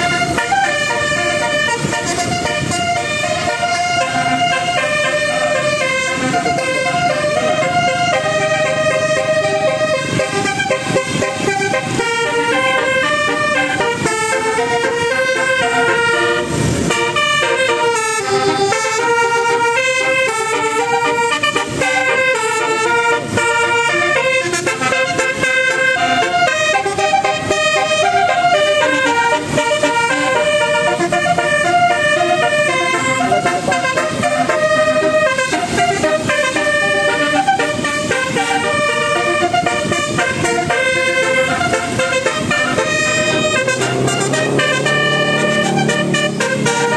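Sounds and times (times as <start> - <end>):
multi-tone bus horn melody: 0.0 - 46.9.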